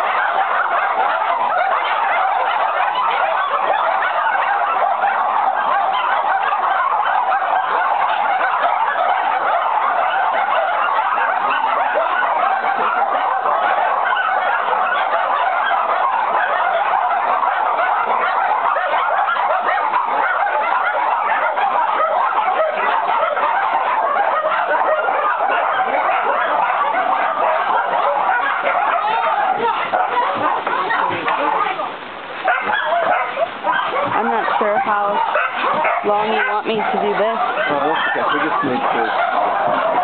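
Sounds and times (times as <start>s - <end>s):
many dogs barking: 0.0s - 40.0s.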